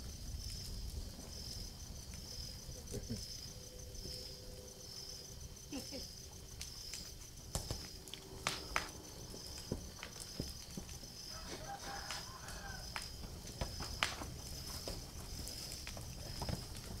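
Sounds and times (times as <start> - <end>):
insect chirping trill: 0.0 - 17.0.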